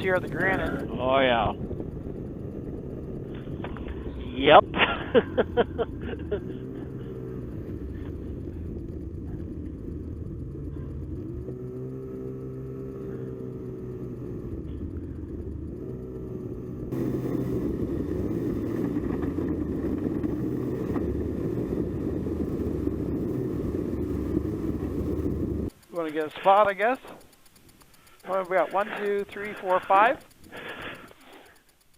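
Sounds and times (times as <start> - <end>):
snowmobile engine running: 0.0 - 31.9.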